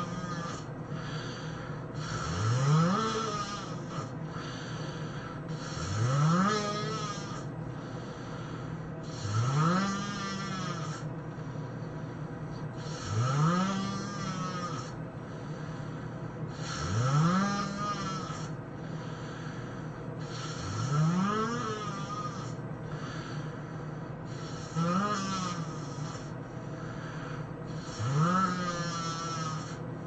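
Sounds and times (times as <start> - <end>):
man snoring: 0.0 - 11.5, 12.7 - 15.9, 16.5 - 29.8.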